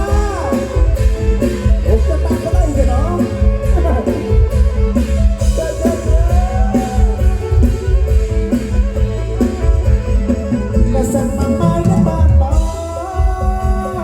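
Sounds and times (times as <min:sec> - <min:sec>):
drum kit: 0:00.0 - 0:14.0
electric guitar: 0:00.0 - 0:14.0
gliding melody line: 0:00.0 - 0:14.0
pulsing bass: 0:00.0 - 0:14.0.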